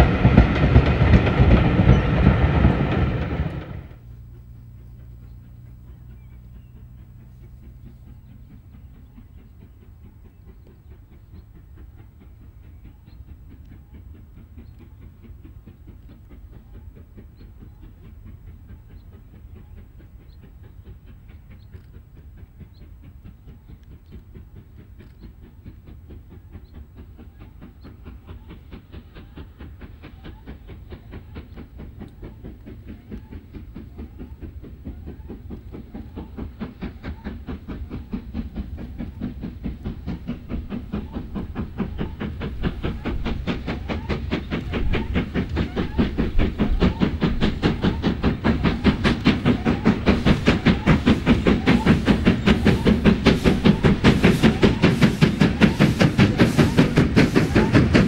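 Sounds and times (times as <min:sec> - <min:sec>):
steam locomotive exhaust beating: 0:00.0 - 0:58.0
train low rumble: 0:00.0 - 0:58.0.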